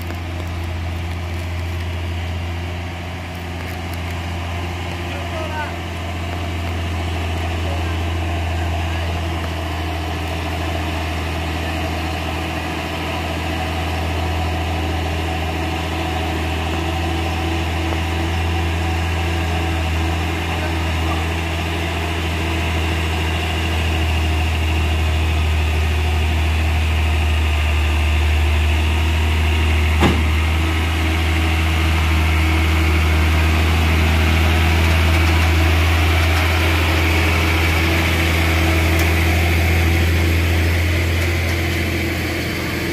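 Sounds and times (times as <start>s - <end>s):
diesel truck engine drone: 0.0s - 42.9s.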